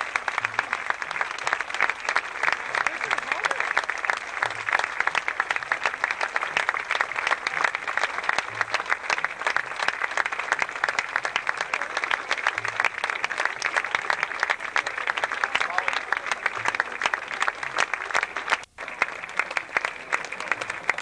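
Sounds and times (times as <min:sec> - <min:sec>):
crowd clapping: 0:00.0 - 0:21.0.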